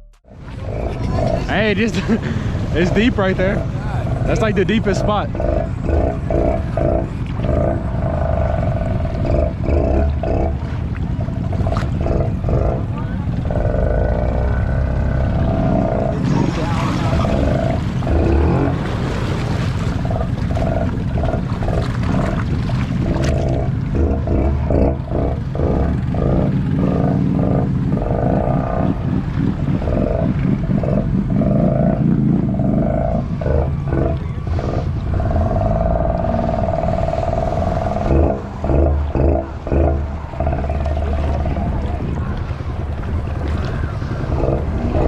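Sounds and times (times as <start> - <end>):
heavy low rumble: 0.0 - 45.0
atv engines revving: 0.7 - 10.6, 12.0 - 19.9, 23.5 - 45.0.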